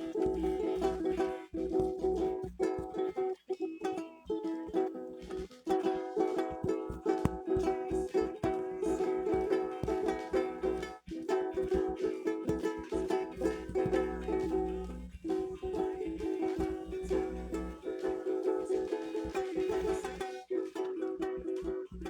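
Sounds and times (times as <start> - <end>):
strummed acoustic chords: 0.0 - 22.0.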